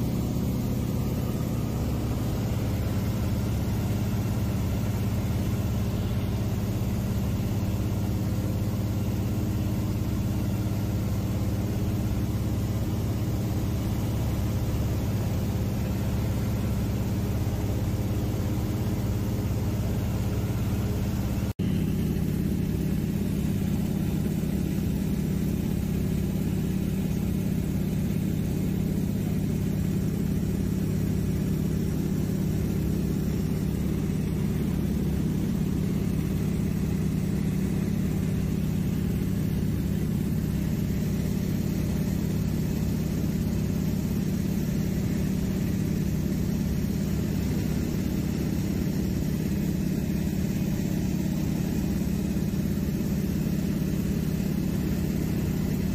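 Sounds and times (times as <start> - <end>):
plane engine and propeller droning: 0.0 - 55.9.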